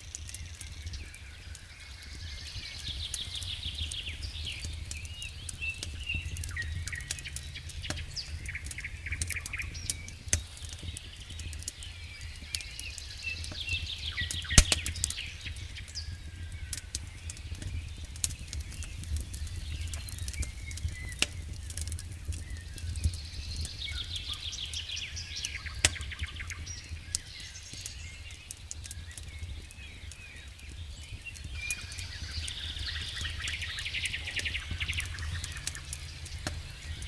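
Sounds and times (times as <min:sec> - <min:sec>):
campfire crackling and popping: 0:00.0 - 0:37.0
birds singing trilled phrases: 0:00.3 - 0:37.0.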